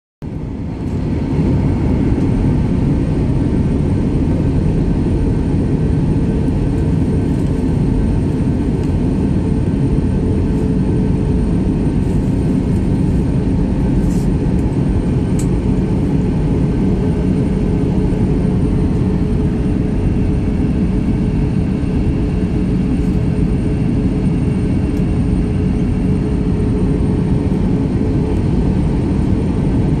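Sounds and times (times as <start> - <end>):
airliner cabin engine drone: 0.2 - 30.0.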